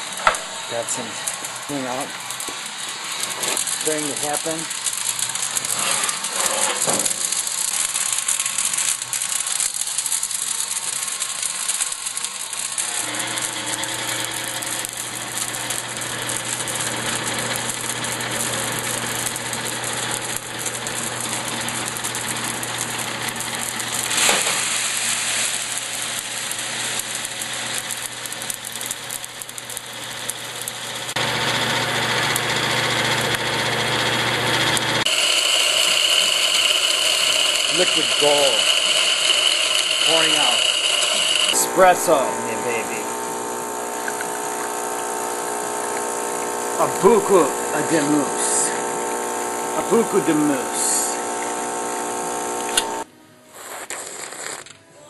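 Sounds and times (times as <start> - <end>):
electric motor hum: 0.0 - 53.1
rattling coffee machinery: 0.0 - 53.1.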